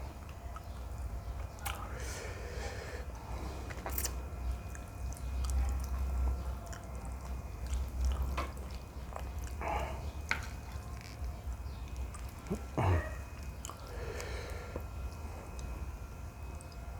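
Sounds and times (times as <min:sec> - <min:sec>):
person chewing noodles: 0:00.2 - 0:16.8.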